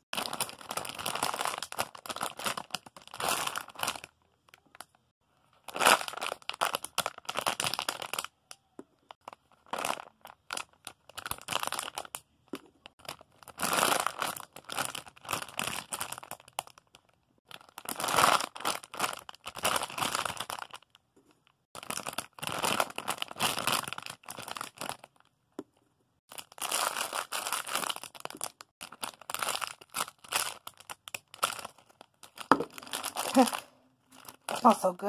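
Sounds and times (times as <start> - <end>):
plastic wrapping crinkling: 0.1 - 21.0, 21.8 - 25.3, 26.3 - 35.0.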